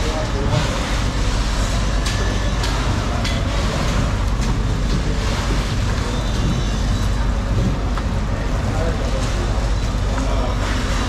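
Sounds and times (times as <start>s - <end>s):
rushing noise with deep rumble: 0.0s - 11.0s.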